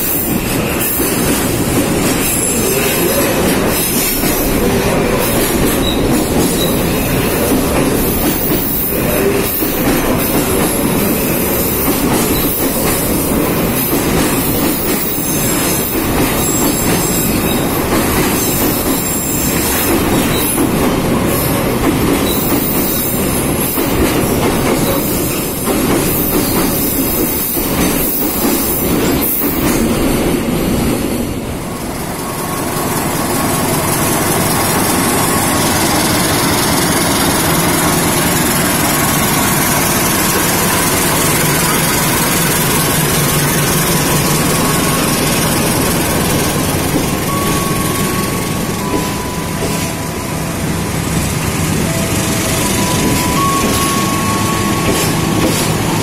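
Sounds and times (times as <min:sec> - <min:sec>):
diesel locomotive engine running: 0:00.0 - 0:56.0
train wheels rumbling over rails: 0:00.0 - 0:56.0.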